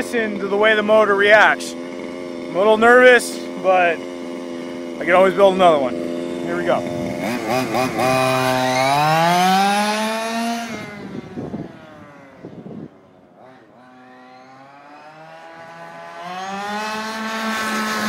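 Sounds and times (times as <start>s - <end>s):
small two-stroke engine revving: 0.0s - 18.0s.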